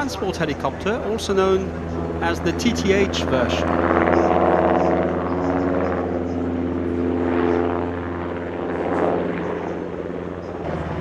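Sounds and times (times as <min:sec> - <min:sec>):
helicopter engines and rotor: 0:00.0 - 0:11.0.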